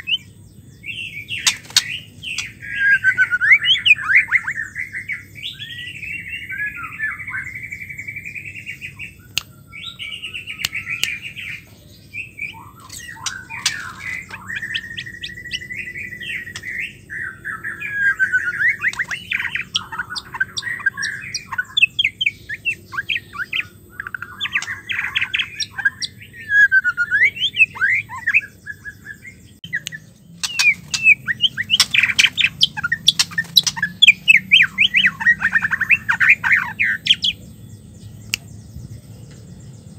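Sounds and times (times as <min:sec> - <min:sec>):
bird singing whistled phrases: 0:00.0 - 0:11.6, 0:12.2 - 0:37.4.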